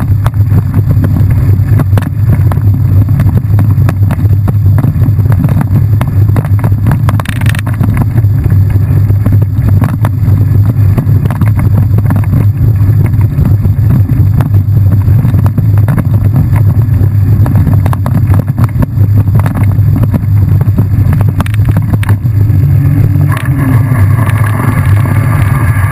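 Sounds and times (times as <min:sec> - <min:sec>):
bike rattling and knocking: 0:00.0 - 0:22.5
wind rumble on microphone: 0:00.0 - 0:25.9.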